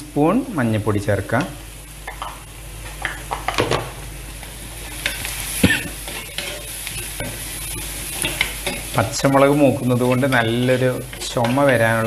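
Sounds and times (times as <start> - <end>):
food sizzling in oil: 0.7 - 12.0.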